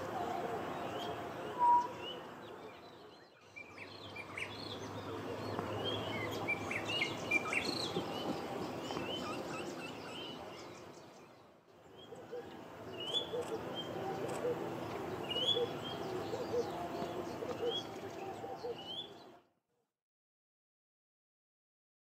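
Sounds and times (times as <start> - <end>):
songbirds chirping and singing: 0.0 - 19.4.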